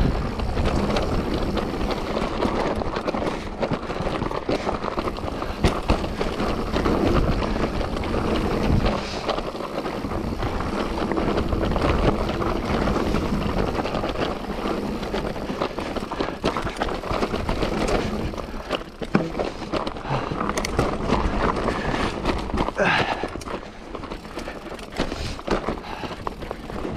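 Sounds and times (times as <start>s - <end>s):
bike rattles and knocks: 0.0s - 26.9s.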